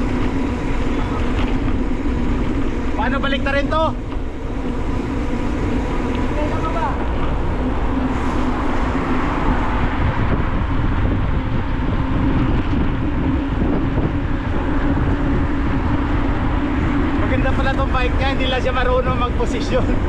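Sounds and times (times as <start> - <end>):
continuous low hum: 0.0 - 20.0
road noise: 0.0 - 20.0
wind rush: 0.0 - 20.0.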